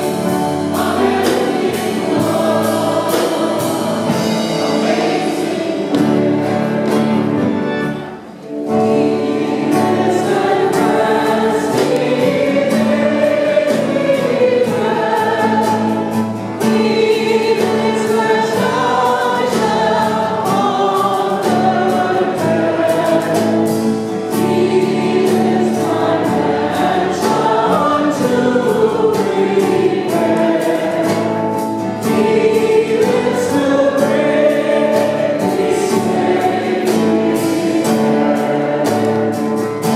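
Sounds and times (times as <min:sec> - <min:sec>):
acoustic guitar: 0:00.0 - 0:39.9
choir singing a hymn: 0:00.0 - 0:39.9
keyboard: 0:00.0 - 0:39.9.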